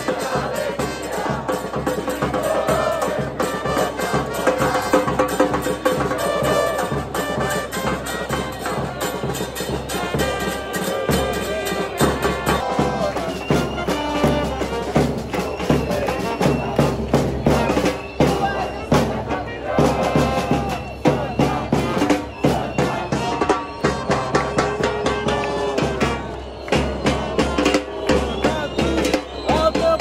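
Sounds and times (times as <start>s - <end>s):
busy regular percussion: 0.0s - 30.0s.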